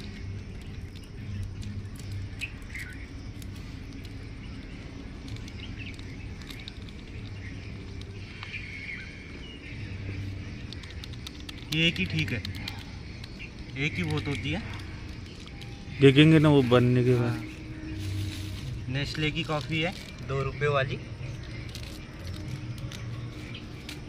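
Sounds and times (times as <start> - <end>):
small birds chirping: 0.0 - 24.0
steady low hum: 0.0 - 24.0.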